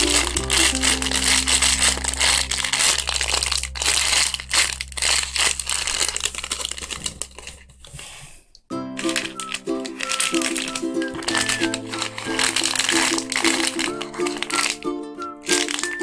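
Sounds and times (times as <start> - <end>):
plastic packaging crinkling: 0.0 - 8.1, 9.0 - 16.0.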